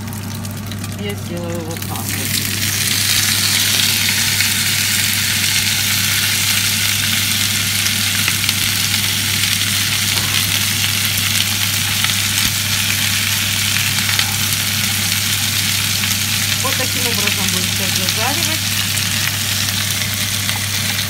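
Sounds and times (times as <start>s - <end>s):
extractor fan humming: 0.0s - 21.0s
vegetables sizzling in frying pan: 0.0s - 21.0s.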